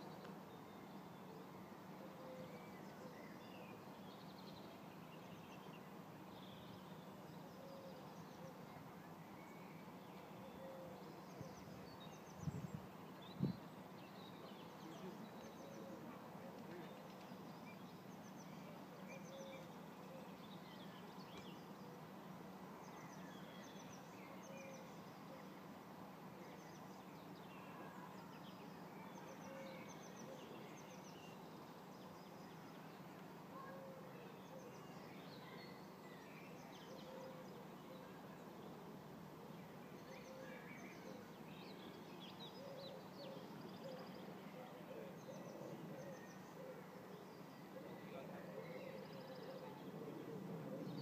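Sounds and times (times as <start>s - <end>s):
songbird chirps: 0.0s - 51.0s.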